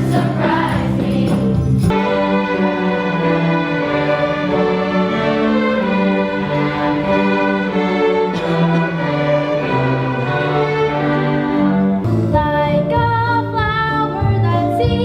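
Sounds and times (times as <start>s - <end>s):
bowed string ensemble: 0.0s - 12.2s.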